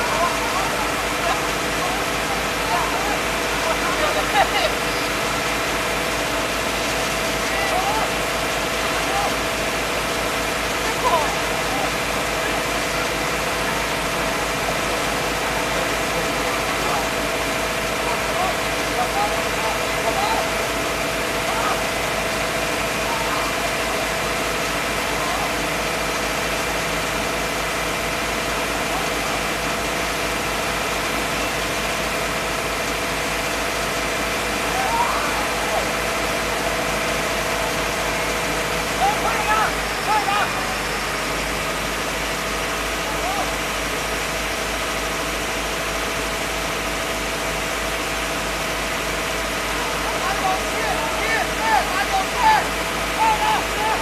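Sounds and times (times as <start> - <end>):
engine running: 0.0 - 54.0
steady hum: 0.0 - 54.0.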